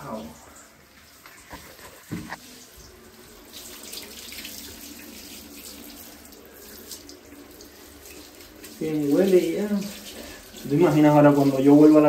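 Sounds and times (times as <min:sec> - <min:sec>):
shower water spraying: 0:00.0 - 0:12.0
water splashing into shower tray: 0:01.0 - 0:12.0.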